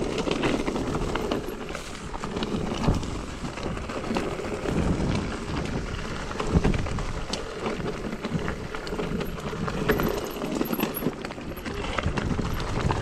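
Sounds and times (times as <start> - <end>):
bike knocks and rattles: 0.0 - 13.0
tyres rumbling on stones: 0.0 - 13.0
wind on microphone: 0.6 - 10.6, 11.5 - 13.0.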